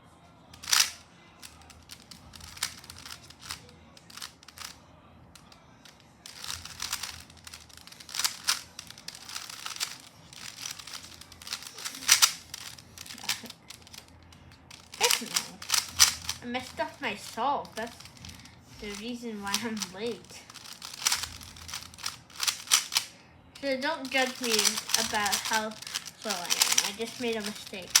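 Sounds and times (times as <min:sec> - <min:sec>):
puzzle cube clicking: 0:00.6 - 0:04.8, 0:05.9 - 0:18.5, 0:19.5 - 0:28.0.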